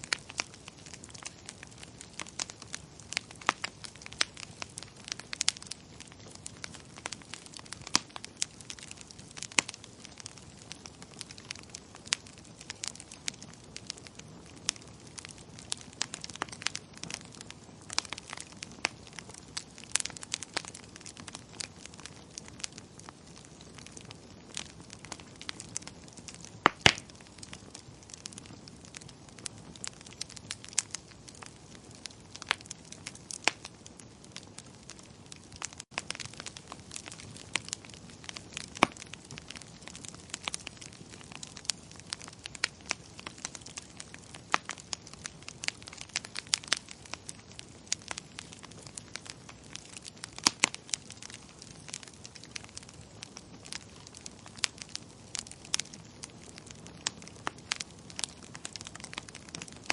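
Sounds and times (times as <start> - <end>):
fire low hiss: 0.0 - 59.9
wood fire crackling: 0.0 - 59.9.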